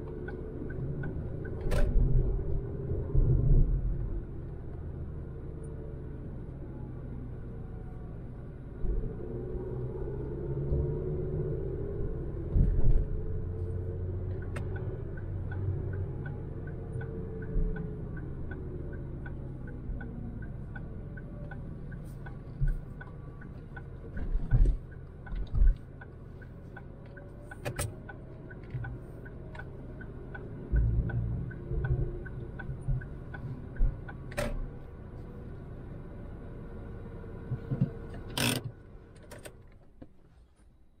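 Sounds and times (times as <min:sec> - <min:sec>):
turn signal ticking: 0:00.0 - 0:40.2
car engine running from inside: 0:00.0 - 0:40.6.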